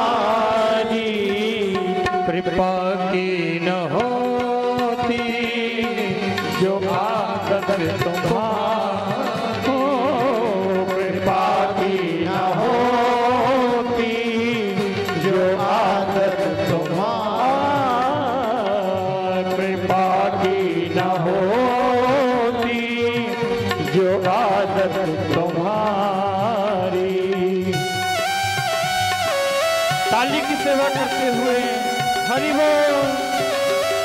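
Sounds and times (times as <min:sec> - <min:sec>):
devotional music with steady beat: 0:00.0 - 0:34.0.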